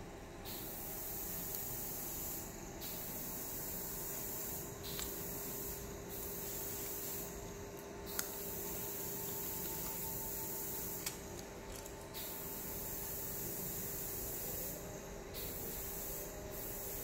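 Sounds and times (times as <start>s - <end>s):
paint spray hissing: 0.5s - 11.3s, 12.2s - 17.0s.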